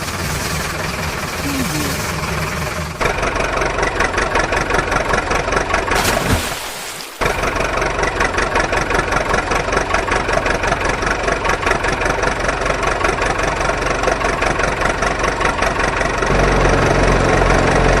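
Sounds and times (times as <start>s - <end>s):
engine idling with rapid chugging: 0.0s - 6.0s, 7.2s - 18.0s.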